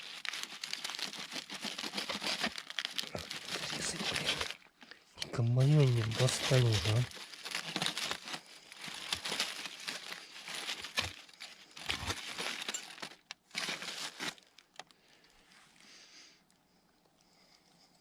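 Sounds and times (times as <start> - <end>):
crinkling and rustling: 0.0 - 15.8.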